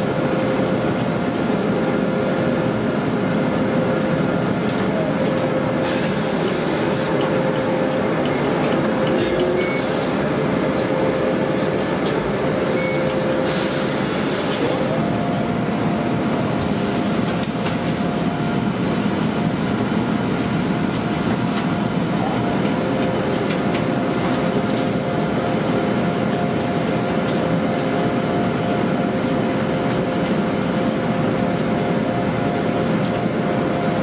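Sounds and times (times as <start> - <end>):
laundry pressing machinery running: 0.0 - 34.0.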